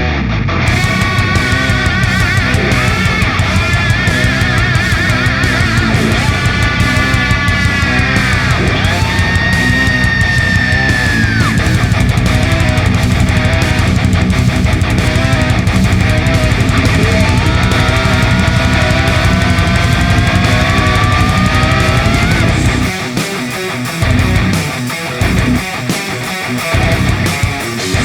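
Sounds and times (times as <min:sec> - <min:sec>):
heavy rock music: 0:00.0 - 0:28.0.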